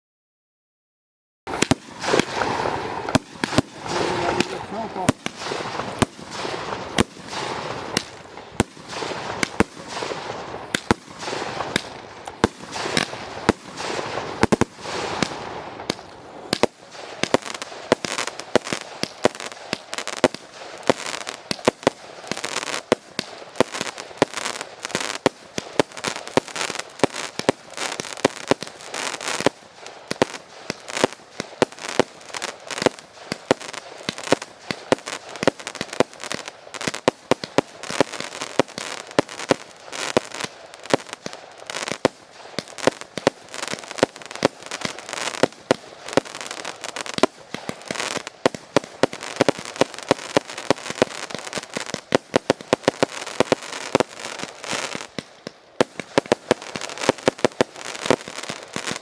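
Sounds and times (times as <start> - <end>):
fireworks banging and crackling: 1.5 - 59.0.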